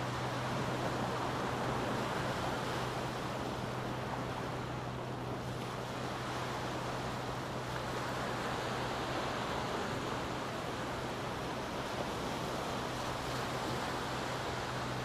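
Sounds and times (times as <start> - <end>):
waves washing up a beach: 0.0 - 15.0.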